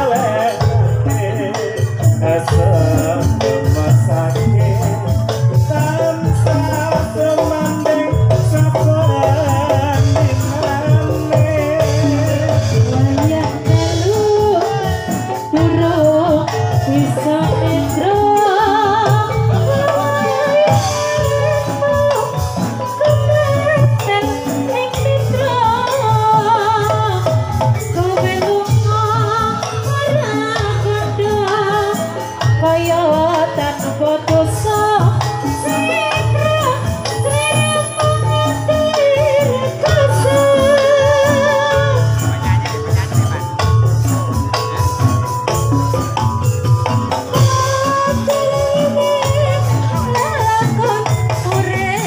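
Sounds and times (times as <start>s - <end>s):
gamelan ensemble playing: 0.0s - 52.0s
person singing wavering melody: 0.0s - 52.0s.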